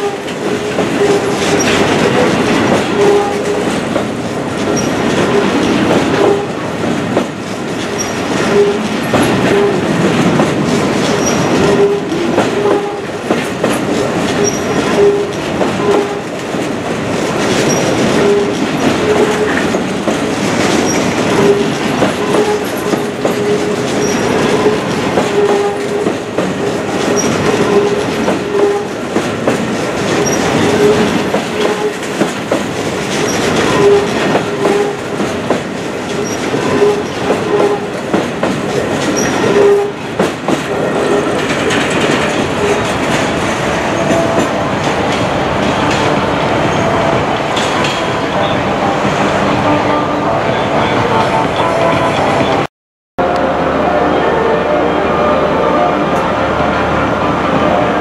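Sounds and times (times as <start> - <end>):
wheels clacking over rail joints: 0.0 - 48.2
freight train rumbling past: 0.0 - 58.0.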